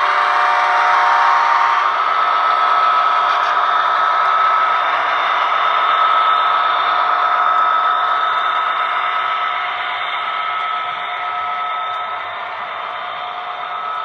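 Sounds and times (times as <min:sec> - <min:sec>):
model train rolling past: 0:00.0 - 0:14.0.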